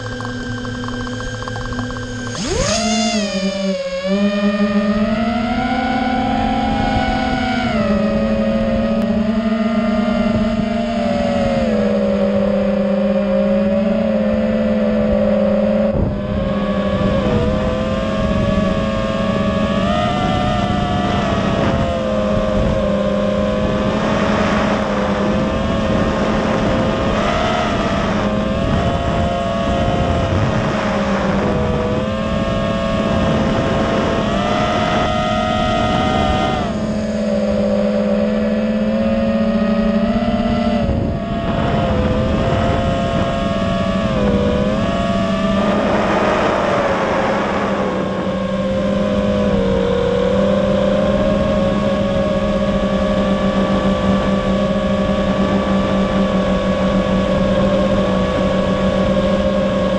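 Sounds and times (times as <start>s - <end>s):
drone motors whining: 0.0s - 59.9s
wind noise: 0.0s - 59.9s.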